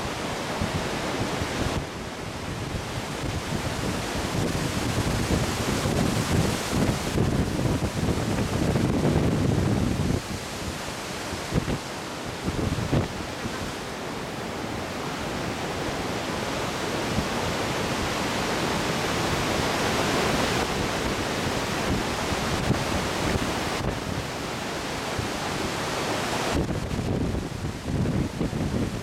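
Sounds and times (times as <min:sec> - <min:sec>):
waterfall rushing: 0:00.0 - 0:29.0
wind buffeting microphone: 0:00.0 - 0:29.0.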